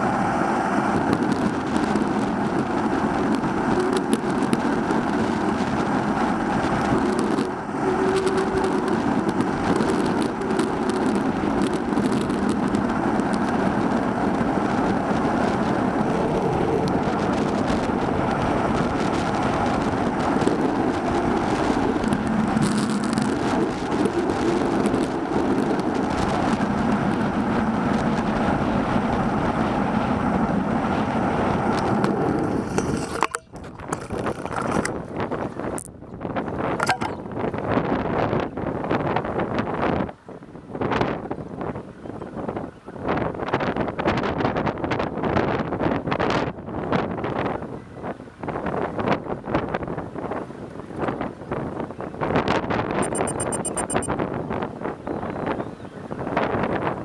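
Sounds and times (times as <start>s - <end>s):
bicycle tyre and wind noise: 0.0s - 57.0s.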